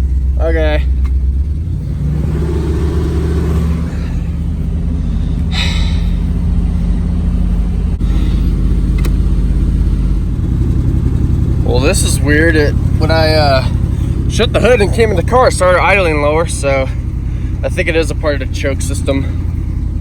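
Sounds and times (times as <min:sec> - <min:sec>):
car engine fast idle: 0:00.0 - 0:20.0.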